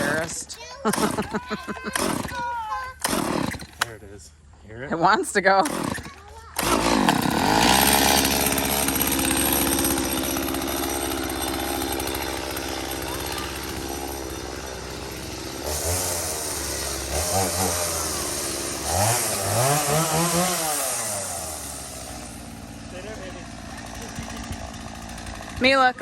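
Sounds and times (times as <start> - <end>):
chainsaw engine idling and revving: 0.0 - 4.2, 5.0 - 26.0.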